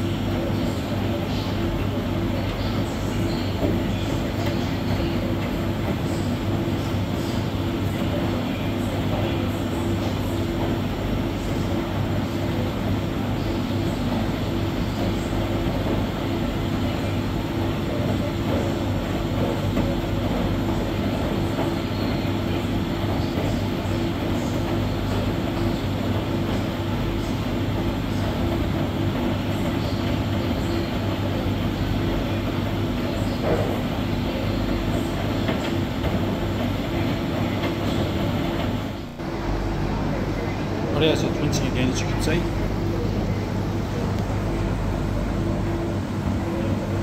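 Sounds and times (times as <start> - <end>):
washing machine drum turning: 0.0 - 47.0.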